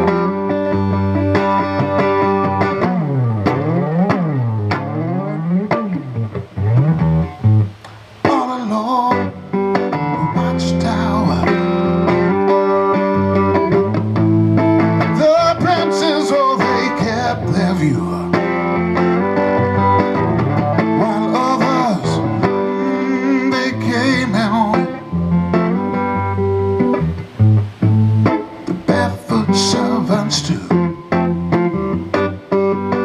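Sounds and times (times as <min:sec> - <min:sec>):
lead guitar bent notes: 0:00.0 - 0:33.0
live blues band playing: 0:00.0 - 0:33.0.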